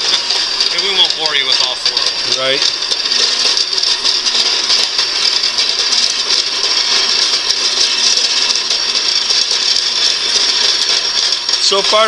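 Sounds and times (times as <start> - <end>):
power saw cutting metal: 0.0 - 12.0.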